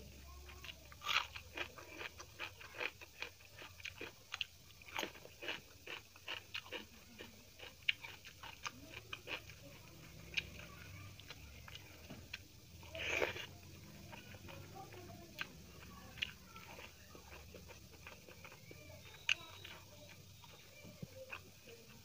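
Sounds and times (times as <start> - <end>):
food chewing and crunching: 0.0 - 22.0.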